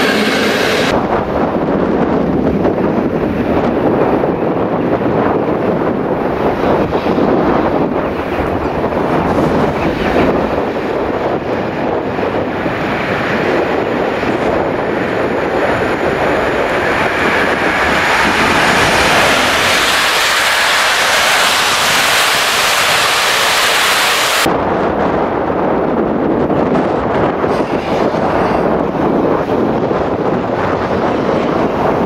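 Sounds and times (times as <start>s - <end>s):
train wheels rushing on rail: 0.0s - 32.0s
wind noise on microphone: 0.0s - 32.0s.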